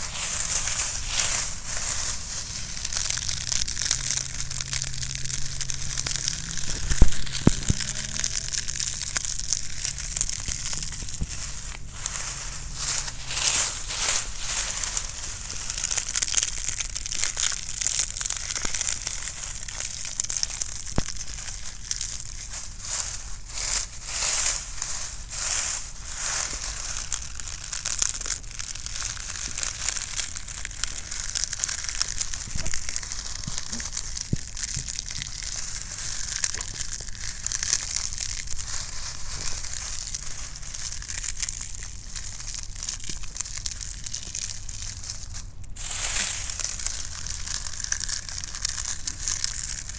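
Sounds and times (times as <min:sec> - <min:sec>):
dry leaves crunching: 0:00.0 - 0:49.9.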